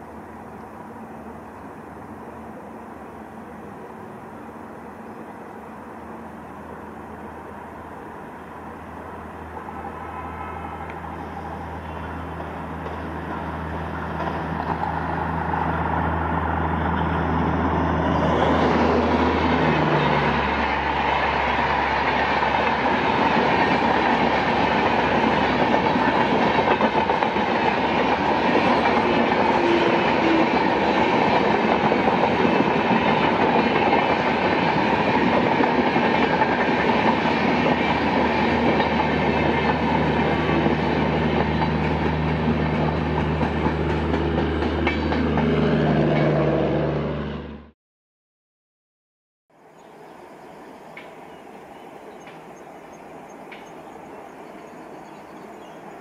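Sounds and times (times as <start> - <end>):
train wheels rushing on rails: 0.0 - 47.5
electric locomotive humming: 0.0 - 47.7, 49.6 - 56.0.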